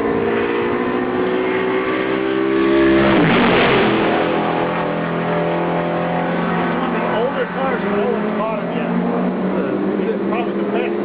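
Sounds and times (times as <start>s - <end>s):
racing car engines at full throttle: 0.0s - 11.0s
racing car passing close: 0.0s - 11.0s.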